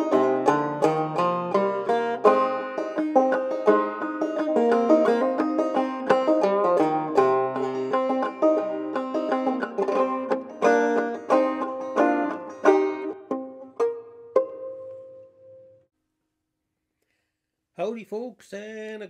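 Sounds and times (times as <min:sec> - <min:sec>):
banjo plucked notes: 0:00.0 - 0:15.8.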